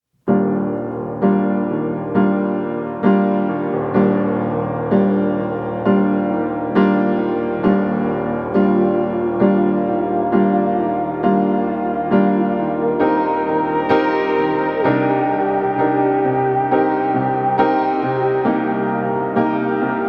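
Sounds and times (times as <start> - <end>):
slow piano chords: 0.2 - 20.0.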